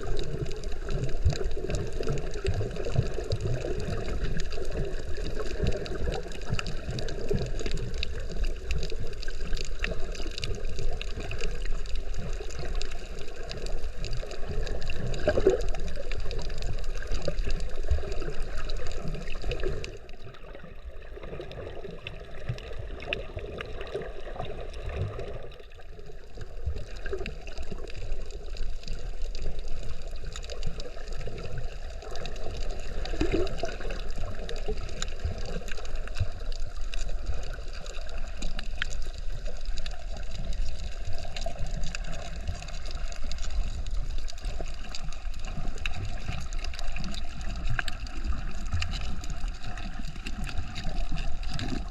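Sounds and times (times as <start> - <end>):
small clicks and crackles: 0.0 - 51.9
water sloshing and gurgling: 0.0 - 51.9.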